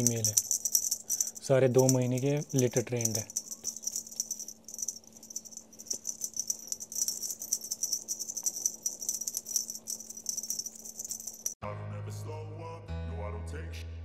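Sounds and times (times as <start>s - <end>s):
high-pitched jingling rattle: 0.0s - 11.6s.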